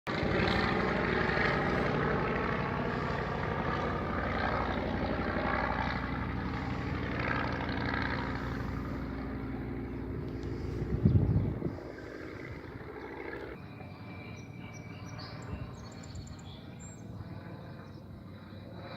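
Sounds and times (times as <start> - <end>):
model airplane engine and propeller: 0.1 - 18.9.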